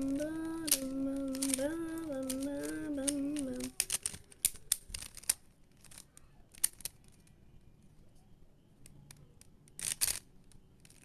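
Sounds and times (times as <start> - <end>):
puzzle cube clicking: 0.0 - 7.3, 8.8 - 11.0.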